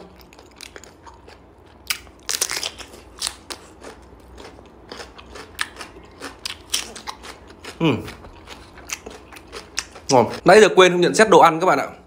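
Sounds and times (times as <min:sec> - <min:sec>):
crisp chewing crunches: 0:00.1 - 0:10.4.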